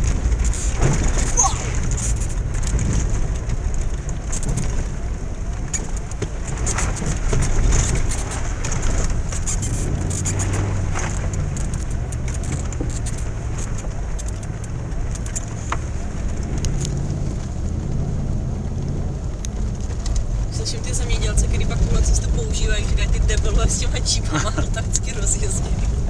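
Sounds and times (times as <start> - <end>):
car engine running: 0.0 - 26.0
car rattling over bumps: 0.0 - 26.0.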